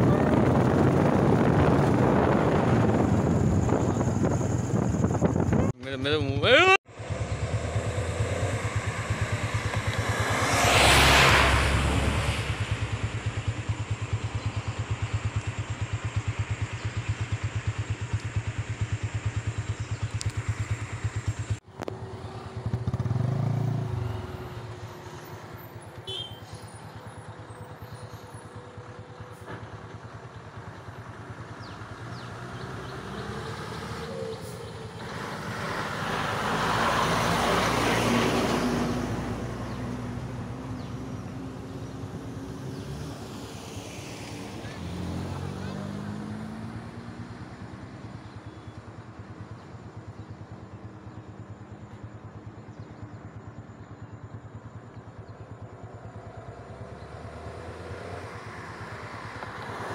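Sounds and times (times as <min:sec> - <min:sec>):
vehicle passing by: 0:00.0 - 0:16.0, 0:19.8 - 0:28.1, 0:29.4 - 0:51.6, 0:55.2 - 0:59.9
traffic: 0:00.0 - 0:59.9.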